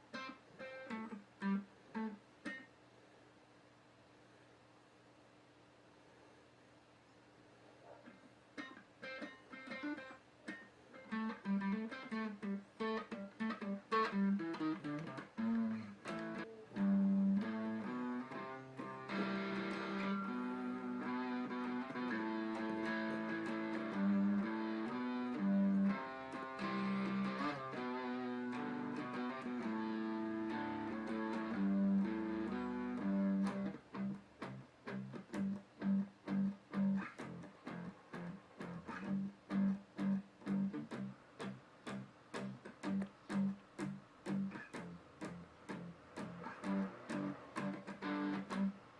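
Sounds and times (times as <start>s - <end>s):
guitar playing: 0.0s - 2.7s, 8.6s - 48.9s.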